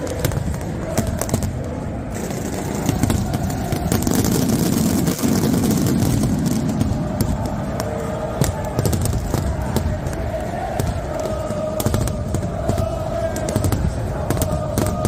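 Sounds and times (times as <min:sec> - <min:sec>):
firework cracks: 0:00.0 - 0:15.0
stadium crowd roaring: 0:00.0 - 0:15.0.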